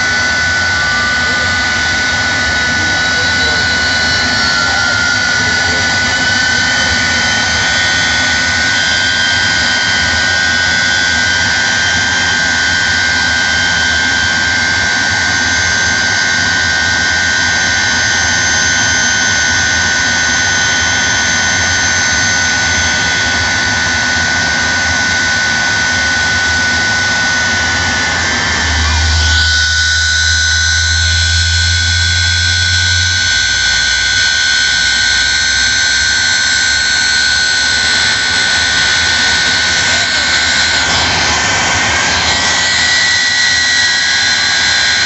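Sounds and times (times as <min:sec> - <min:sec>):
jet engine high whine: 0:00.0 - 0:45.0.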